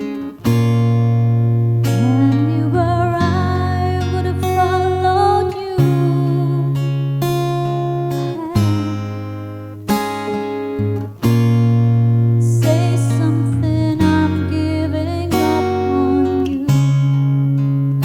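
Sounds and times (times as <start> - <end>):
acoustic guitar chords ringing: 0.0 - 18.0.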